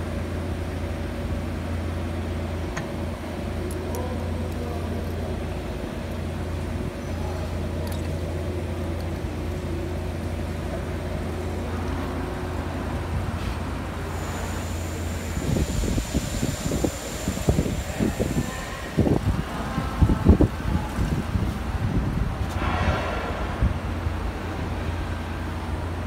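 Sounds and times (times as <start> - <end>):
electrical machine hum: 0.0 - 26.0.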